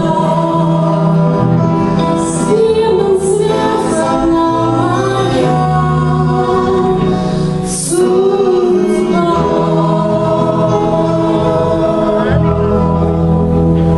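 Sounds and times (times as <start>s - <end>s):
woman singing into a microphone: 0.0s - 13.2s
bass guitar: 0.0s - 13.9s.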